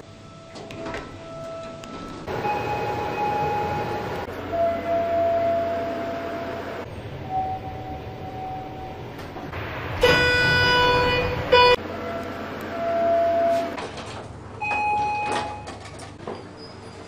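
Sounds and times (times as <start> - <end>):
loud steady elevator tone: 0.0 - 17.0
elevator chime tones: 0.2 - 9.0, 10.0 - 13.8, 14.6 - 15.8.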